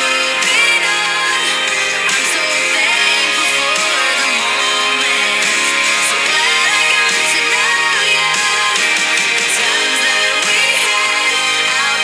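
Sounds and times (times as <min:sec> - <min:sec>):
instrumental song: 0:00.0 - 0:12.0.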